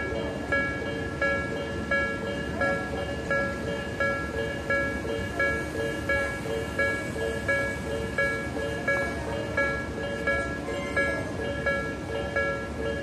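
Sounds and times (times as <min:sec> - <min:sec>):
level crossing bell clanging: 0:00.0 - 0:13.0.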